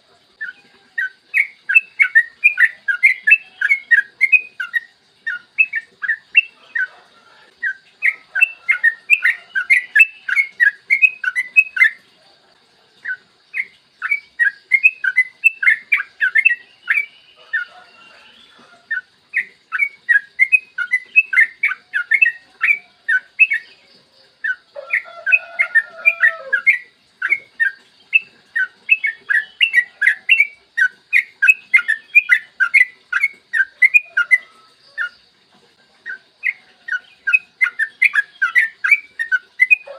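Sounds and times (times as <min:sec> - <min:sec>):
bird singing bubbly notes: 0:00.0 - 0:12.2, 0:12.9 - 0:39.9.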